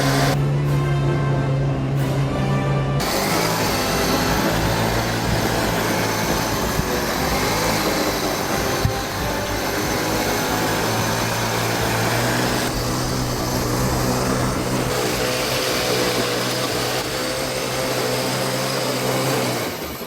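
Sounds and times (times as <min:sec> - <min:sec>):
model engine idling: 0:00.0 - 0:00.6, 0:03.0 - 0:20.0.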